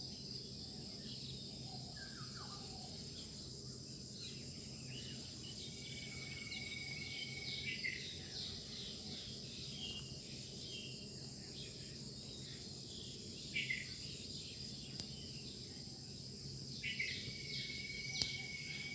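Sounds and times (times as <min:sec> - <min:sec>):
insects droning: 0:00.0 - 0:18.9.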